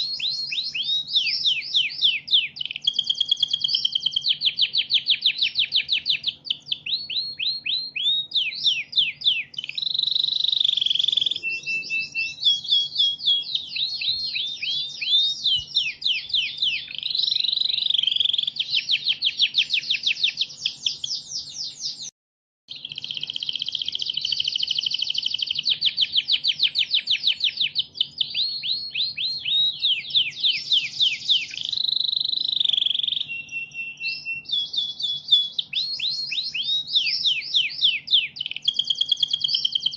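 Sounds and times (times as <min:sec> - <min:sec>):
canary singing trills: 0:00.0 - 0:22.1, 0:22.7 - 0:39.9.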